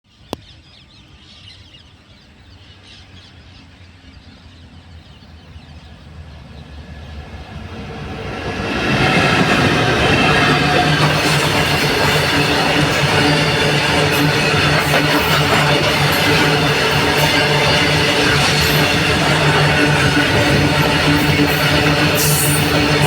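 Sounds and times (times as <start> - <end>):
diesel train rumbling: 3.4 - 23.0.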